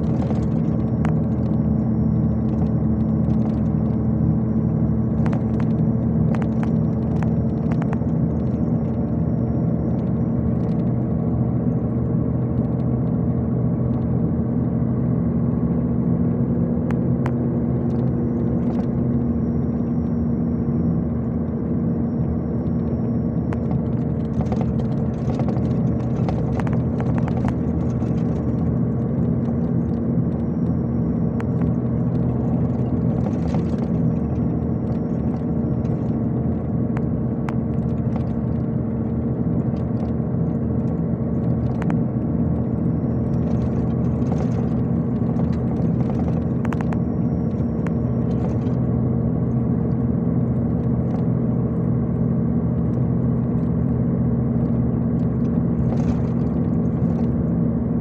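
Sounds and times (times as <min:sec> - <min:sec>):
diesel engine drone: 0:00.0 - 0:58.0
road noise: 0:00.0 - 0:58.0.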